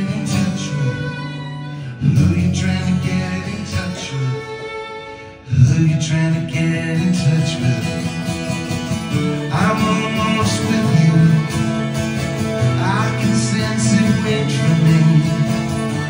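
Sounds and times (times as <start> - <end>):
acoustic guitar strummed: 0.0 - 16.0
violin melody: 0.0 - 16.0.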